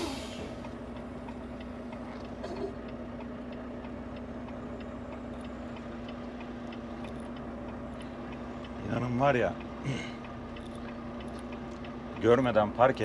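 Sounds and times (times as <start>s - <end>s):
truck engine idling: 0.0s - 13.0s
light ticking: 0.4s - 13.0s.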